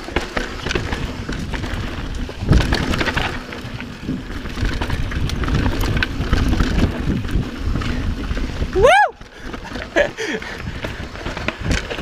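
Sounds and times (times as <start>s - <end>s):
bike clattering: 0.0s - 12.0s
bike tyres rumbling over rocks: 0.0s - 12.0s.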